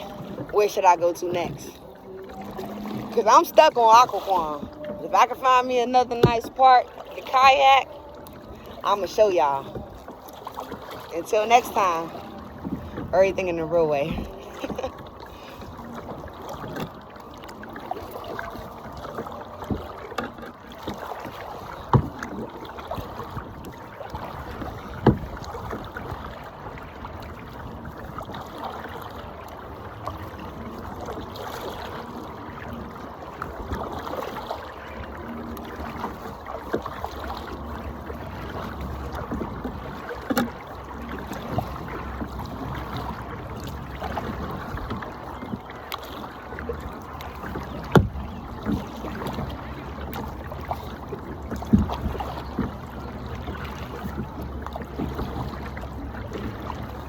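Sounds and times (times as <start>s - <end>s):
paddle knocking on hull: 0.0s - 57.0s
paddle splashing in water: 0.0s - 57.0s.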